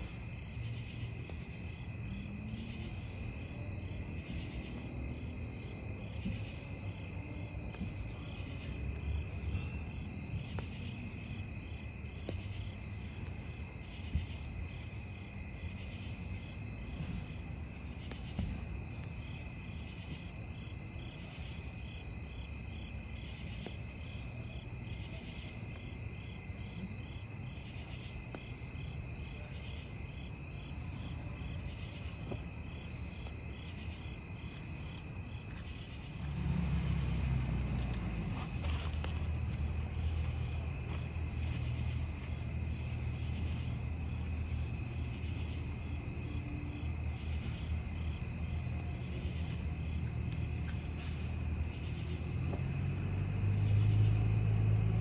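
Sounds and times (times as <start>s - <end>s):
burning logs popping: 0.0s - 19.9s, 21.8s - 29.1s, 30.1s - 55.0s
campfire crackling: 0.0s - 55.0s
crickets chirping: 0.0s - 55.0s.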